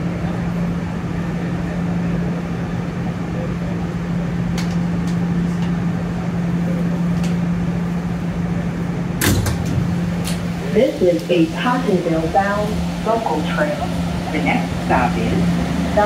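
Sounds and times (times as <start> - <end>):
subway car ventilation hum: 0.0 - 16.0.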